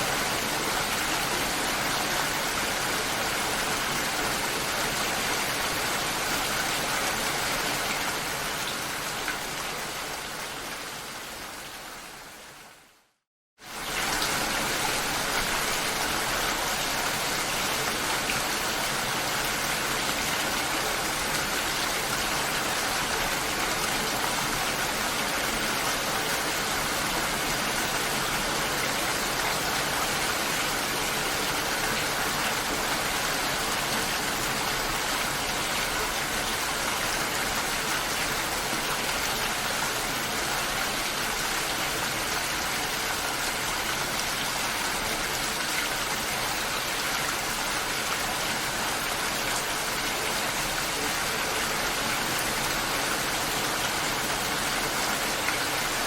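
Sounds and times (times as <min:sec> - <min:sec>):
heavy rain falling: 0:00.0 - 0:12.4, 0:13.6 - 0:56.0.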